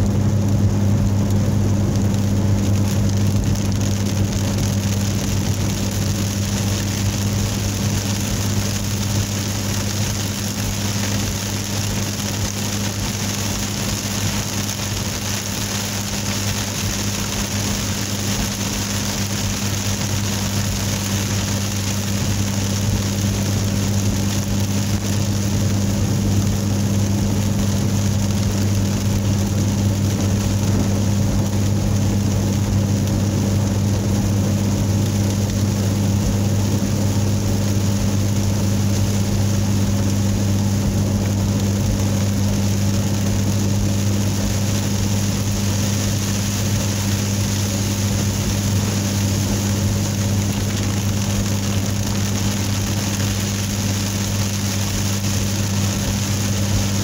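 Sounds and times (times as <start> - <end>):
car engine and road hum: 0.0 - 57.0
tyres hissing on wet road: 0.9 - 57.0.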